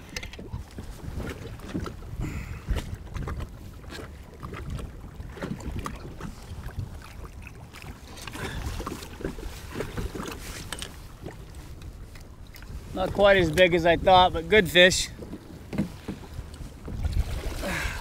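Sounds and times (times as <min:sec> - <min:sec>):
water slapping against hull: 0:00.0 - 0:18.0
wind rumbling on microphone: 0:00.0 - 0:18.0.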